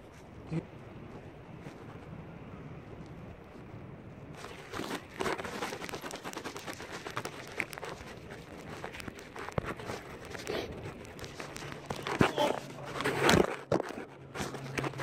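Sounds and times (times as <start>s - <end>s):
low wind hiss: 0.0s - 13.1s.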